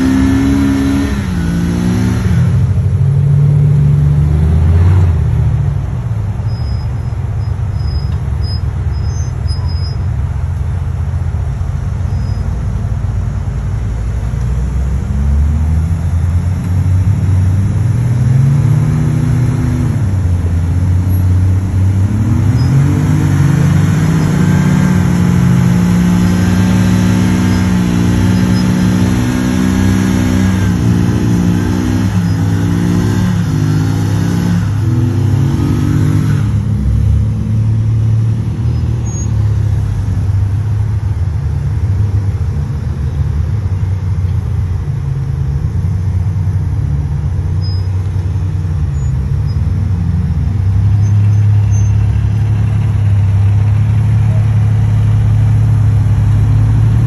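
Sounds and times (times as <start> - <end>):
vehicle engine running and revving: 0.0 - 57.0.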